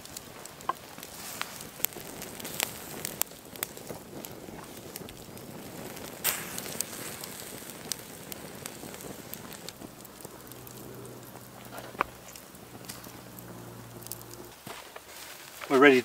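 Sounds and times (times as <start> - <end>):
campfire crackling and popping: 0.0 - 16.0
faint hiss: 0.0 - 16.0.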